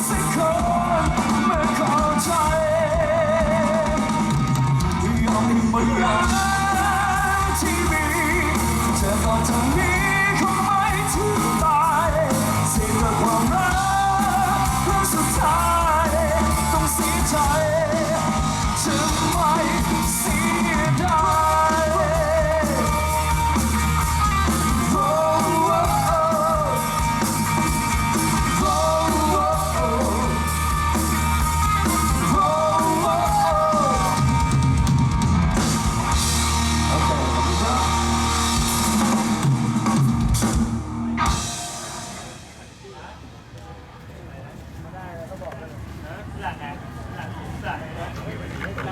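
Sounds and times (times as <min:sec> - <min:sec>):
bending lead melody: 0:00.0 - 0:42.6
live rock band playing: 0:00.0 - 0:42.8.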